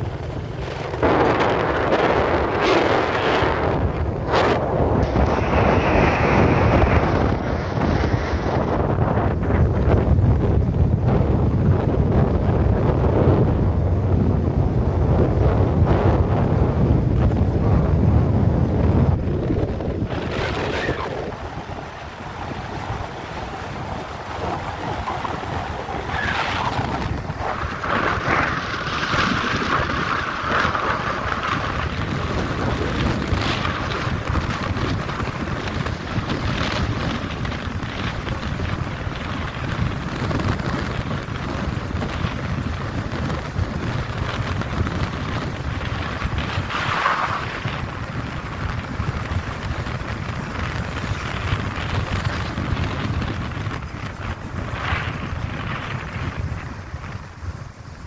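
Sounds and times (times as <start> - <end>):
vehicle engine: 0.0 - 57.8
road noise: 0.0 - 58.0
wind buffeting microphone: 0.0 - 58.0.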